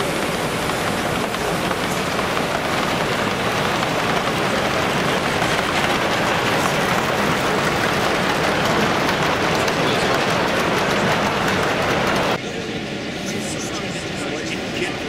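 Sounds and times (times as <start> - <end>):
crowd hum in hall: 0.0 - 15.0
model train wheels rumbling on rails: 0.0 - 15.0.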